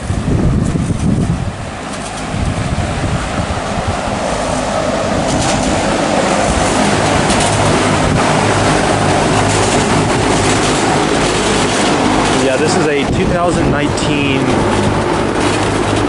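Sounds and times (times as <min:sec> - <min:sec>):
heat pump hum: 0:00.0 - 0:16.0
outdoor fan rushing: 0:00.0 - 0:16.0.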